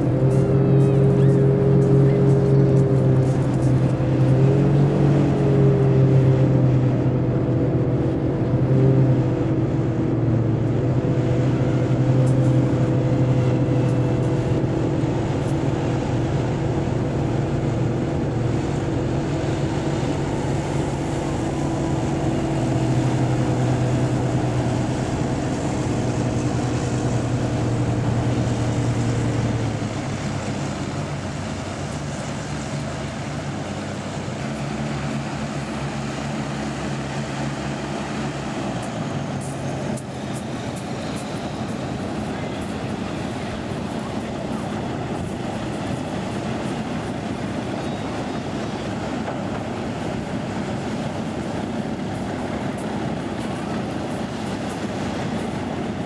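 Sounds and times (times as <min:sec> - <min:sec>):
hovercraft engine drone: 0:00.0 - 0:56.0
water rushing wash: 0:00.0 - 0:56.0.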